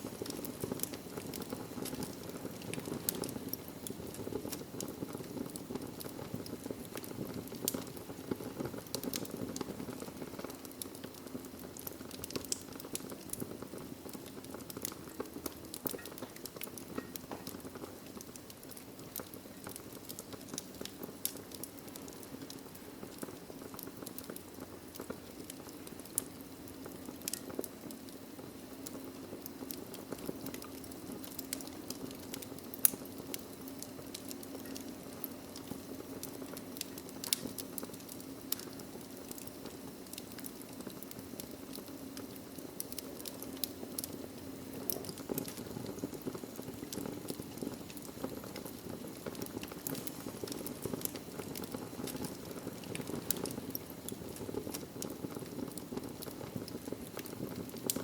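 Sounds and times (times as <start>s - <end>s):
wood logs burning with crackles: 0.0s - 58.0s.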